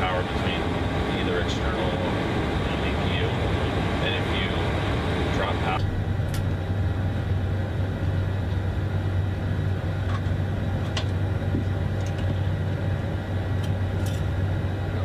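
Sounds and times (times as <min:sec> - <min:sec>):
aircraft machinery drone: 0:00.0 - 0:15.0.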